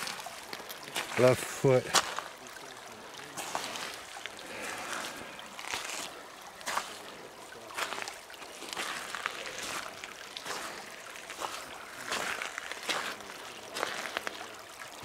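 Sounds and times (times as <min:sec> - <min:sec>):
footsteps squelching in wet ground: 0:00.0 - 0:15.0.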